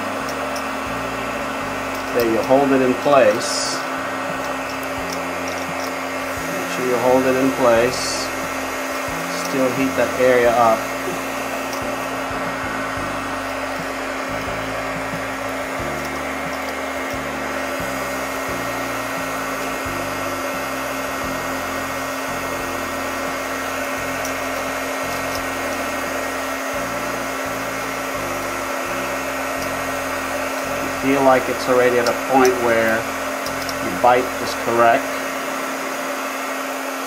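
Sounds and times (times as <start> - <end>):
heat gun blowing hot air: 0.0 - 37.0.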